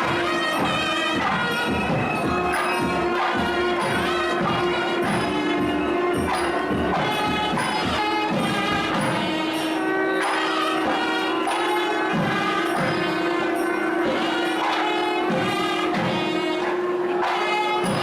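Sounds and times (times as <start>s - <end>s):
drum strokes: 0.0s - 18.0s
loud reed melody: 0.0s - 18.0s.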